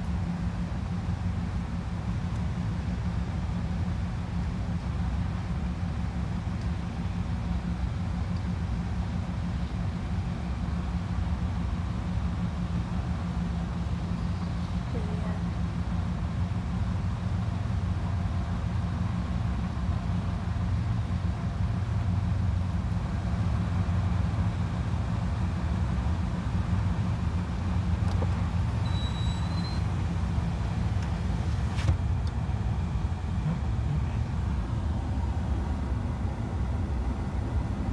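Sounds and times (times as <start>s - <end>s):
car idling rumble: 0.0s - 37.9s.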